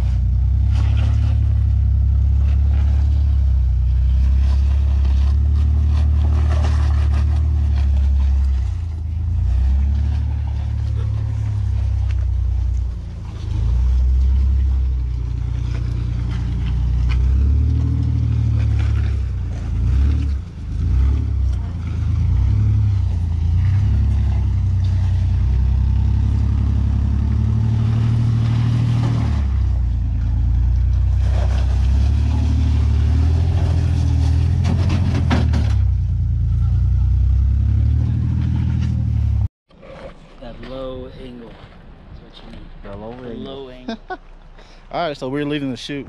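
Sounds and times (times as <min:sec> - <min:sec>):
suv engine running: 0:00.0 - 0:39.5.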